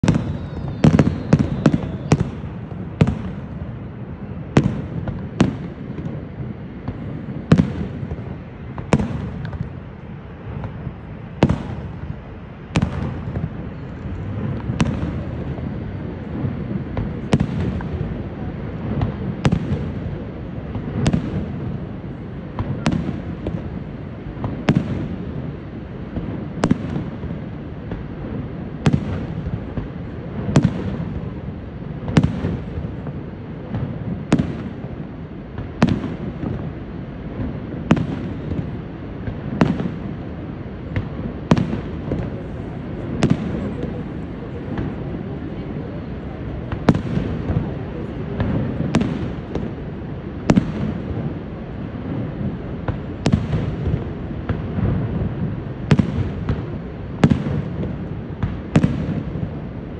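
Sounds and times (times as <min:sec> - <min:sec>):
fireworks bursting with bangs: 0:00.0 - 0:59.9.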